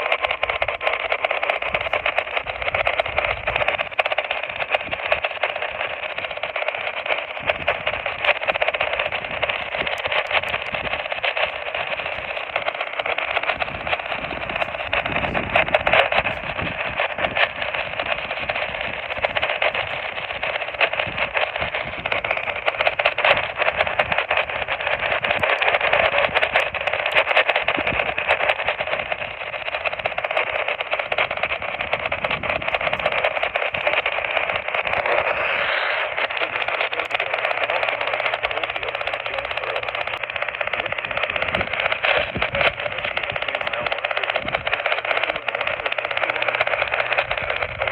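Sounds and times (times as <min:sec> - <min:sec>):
radio static hiss with crackle: 0:00.0 - 0:47.9
low hum: 0:01.1 - 0:47.8.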